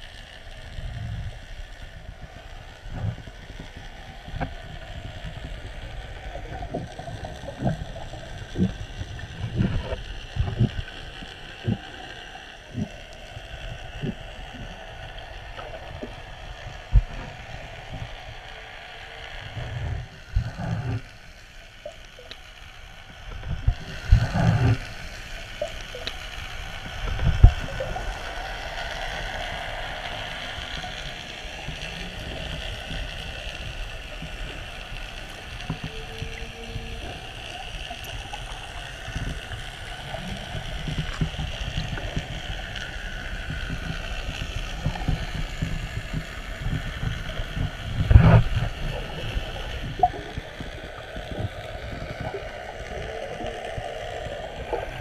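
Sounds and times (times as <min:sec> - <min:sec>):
underwater water rumble: 0:00.0 - 0:55.0.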